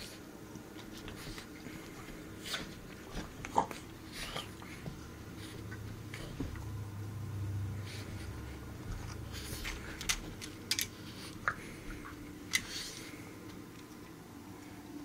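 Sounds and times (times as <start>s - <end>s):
dogs scuffling with snaps: 0.0s - 6.8s, 7.8s - 14.1s.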